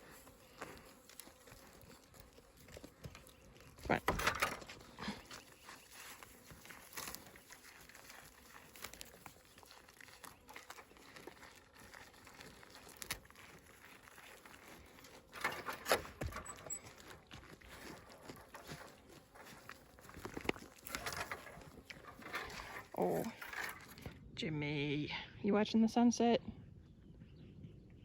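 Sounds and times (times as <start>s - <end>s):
goats crunching snacks: 0.0s - 24.3s.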